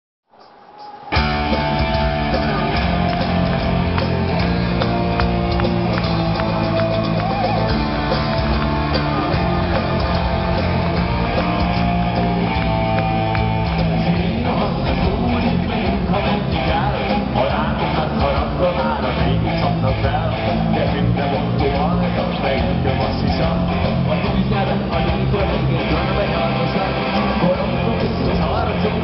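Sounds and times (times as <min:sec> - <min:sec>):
drum kit: 0:00.8 - 0:29.0
bass guitar: 0:01.2 - 0:29.0
electric guitar: 0:01.2 - 0:29.0.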